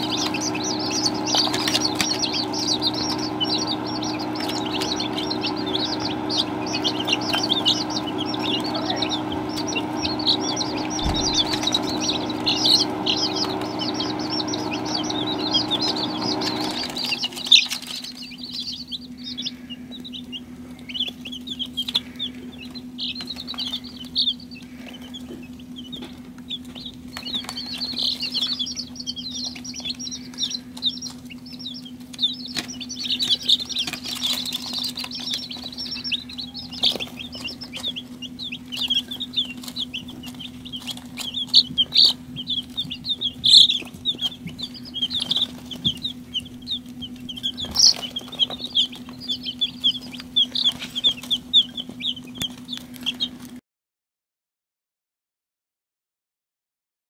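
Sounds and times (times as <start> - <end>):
chicks peeping: 0.0 - 53.6.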